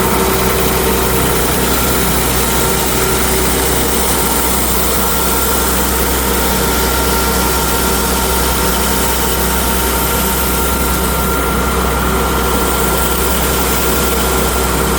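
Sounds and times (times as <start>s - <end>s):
machine motor humming: 0.0s - 14.9s.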